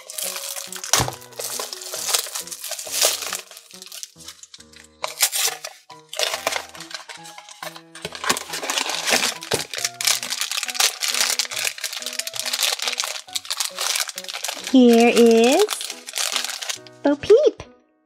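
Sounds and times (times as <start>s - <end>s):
plastic wrap crinkling and tearing: 0.0s - 17.5s
background music: 0.0s - 18.0s.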